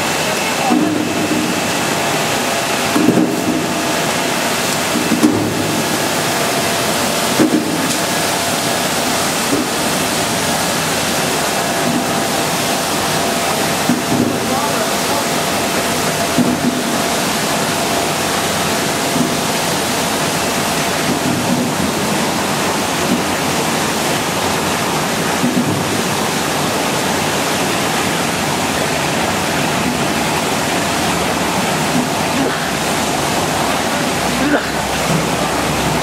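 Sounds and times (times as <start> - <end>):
apples tumbling in water: 0.0 - 36.0
water churning in a tank: 0.0 - 36.0.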